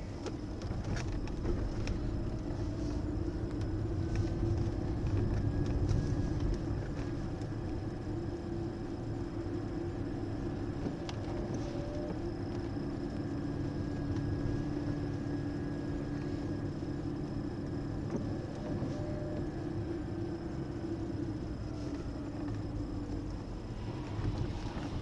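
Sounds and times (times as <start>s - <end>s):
car engine and tyre hum: 0.0s - 25.0s.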